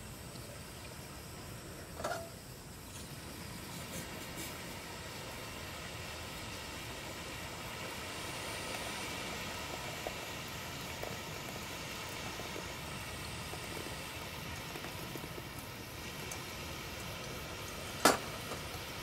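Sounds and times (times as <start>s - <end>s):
rushing outdoor background noise: 0.0s - 19.0s.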